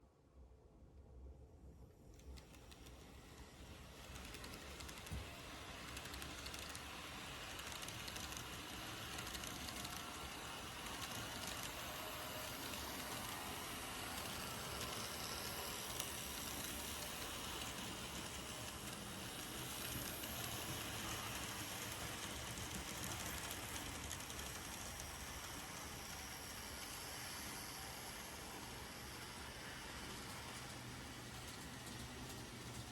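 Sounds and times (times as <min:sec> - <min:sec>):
model train wheels clattering: 0:02.2 - 0:32.9.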